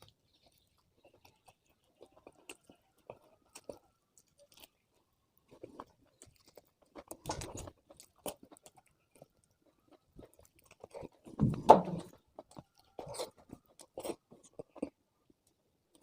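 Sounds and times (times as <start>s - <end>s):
chewing and biting food: 0.0s - 16.0s.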